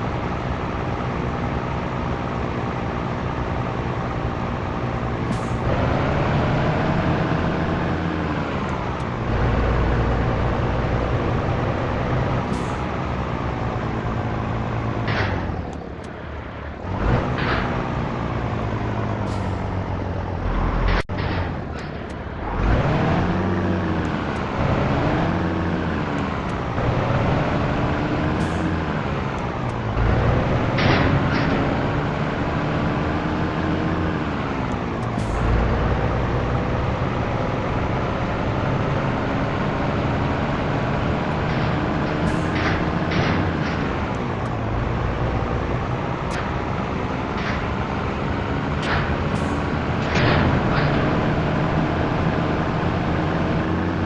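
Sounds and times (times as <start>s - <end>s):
truck diesel engine shifting gears: 0.0s - 54.0s.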